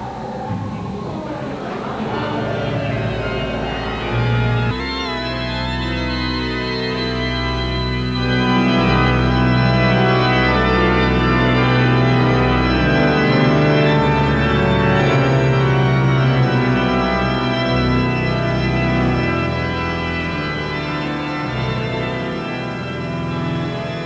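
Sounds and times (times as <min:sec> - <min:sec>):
organ playing held chords: 0:01.9 - 0:24.0.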